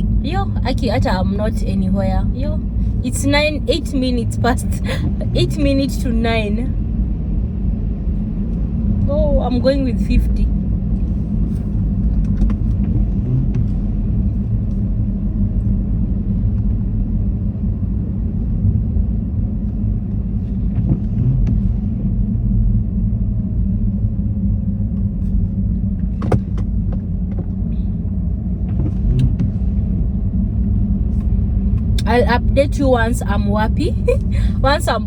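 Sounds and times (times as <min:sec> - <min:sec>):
car rumble from inside cabin: 0:00.0 - 0:35.0.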